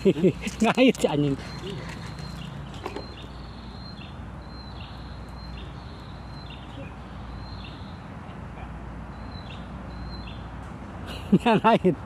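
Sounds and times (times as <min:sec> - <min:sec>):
bird calling: 0:00.0 - 0:10.5.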